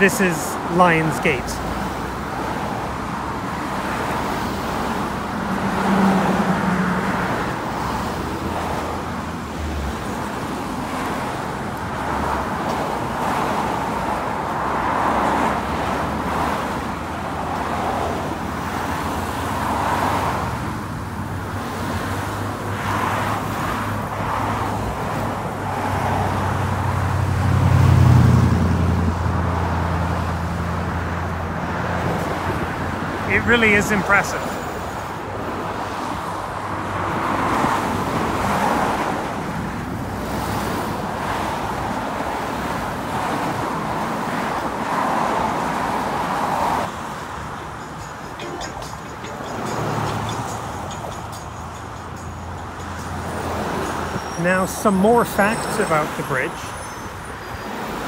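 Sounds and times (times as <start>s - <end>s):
cars passing: 0.0s - 58.0s
rush of tyres and engines: 0.0s - 58.0s.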